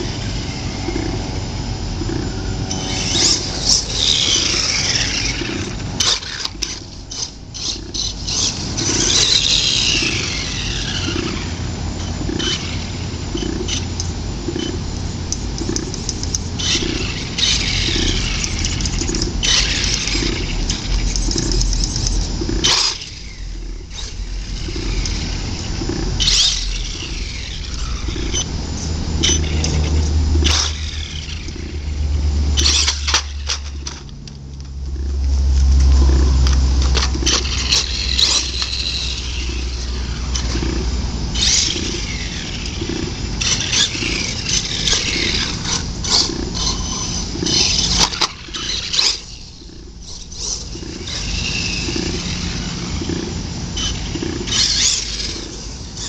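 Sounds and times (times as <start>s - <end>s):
rc truck motor whine: 0.0s - 56.0s.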